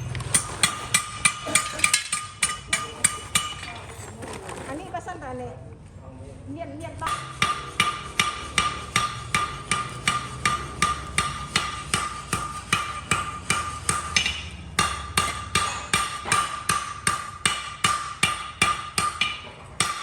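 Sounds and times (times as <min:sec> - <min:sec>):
hammer striking steel on anvil: 0:00.3 - 0:03.8, 0:07.1 - 0:20.0.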